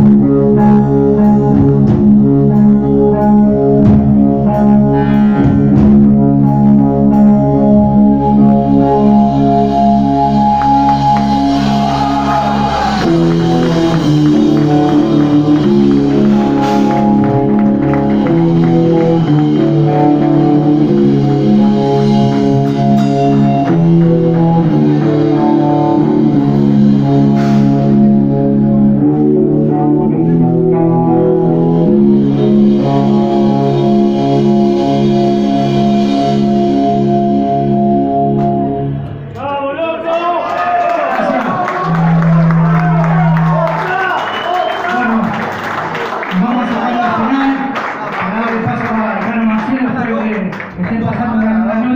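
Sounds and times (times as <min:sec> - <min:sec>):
electric guitar chords: 0:00.0 - 0:39.4, 0:41.1 - 0:48.8.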